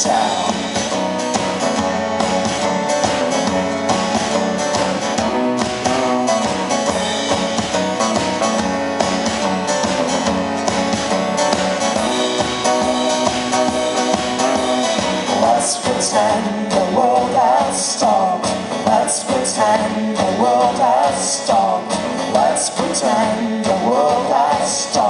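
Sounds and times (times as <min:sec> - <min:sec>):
steady drum beat: 0:00.0 - 0:25.0
strummed guitar: 0:00.0 - 0:25.0.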